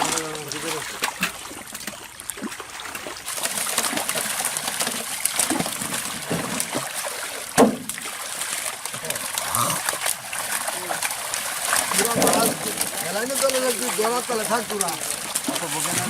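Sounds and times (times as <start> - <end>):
water splashing in pond: 0.0 - 16.0.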